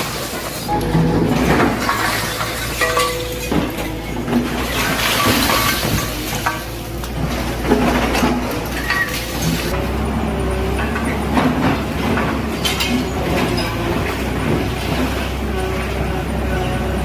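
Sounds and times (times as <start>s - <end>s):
knocks and clatter: 0.0s - 9.8s, 10.6s - 16.0s
bulldozer diesel engine running: 0.0s - 17.0s.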